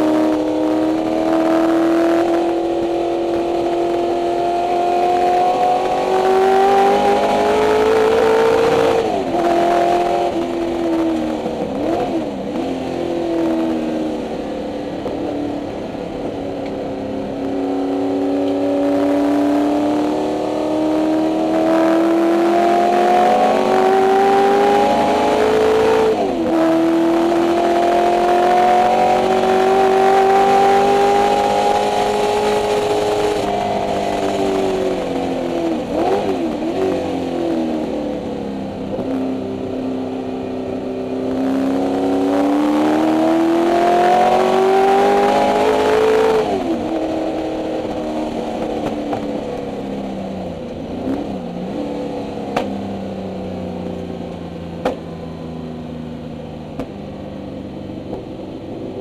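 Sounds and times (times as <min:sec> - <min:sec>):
race car engine revving: 0:00.0 - 0:55.5.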